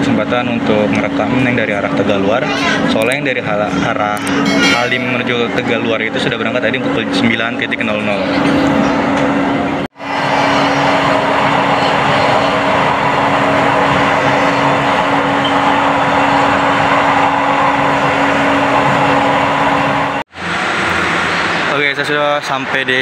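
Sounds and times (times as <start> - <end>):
constant hum: 0.0 - 23.0
train wheels on track: 0.0 - 23.0.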